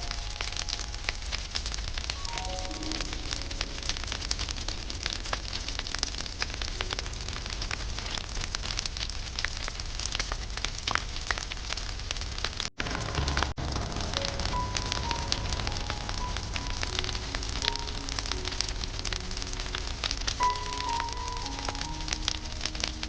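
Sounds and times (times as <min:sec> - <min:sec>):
low rumble: 0:00.0 - 0:08.8, 0:12.7 - 0:23.0
campfire crackling and popping: 0:00.0 - 0:23.0.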